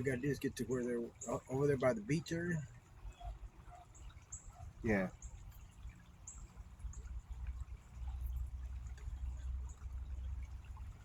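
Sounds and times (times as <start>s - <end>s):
faint trickling creek water: 0.0s - 11.0s.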